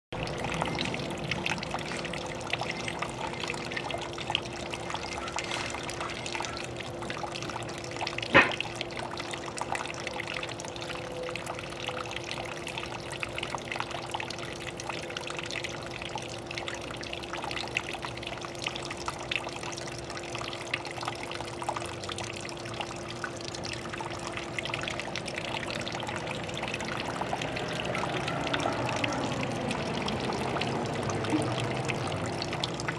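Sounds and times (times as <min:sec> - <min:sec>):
water trickling and splashing: 0:00.1 - 0:32.9
steady hum: 0:00.2 - 0:32.9.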